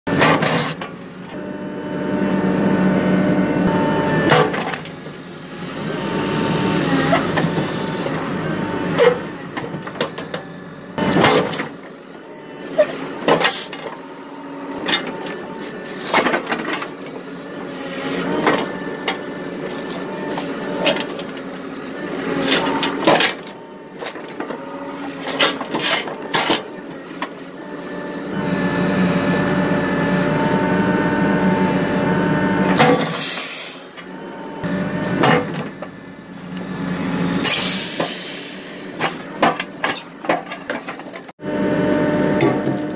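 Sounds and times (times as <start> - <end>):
backhoe engine running: 0.1 - 42.9.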